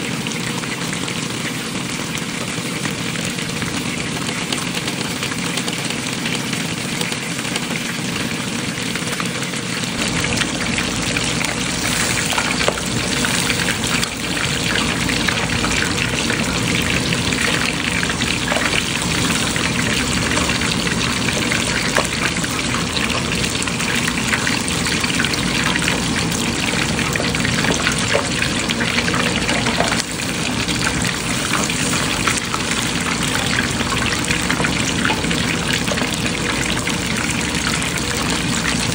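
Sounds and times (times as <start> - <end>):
hot oil sizzling and crackling: 0.0 - 38.9.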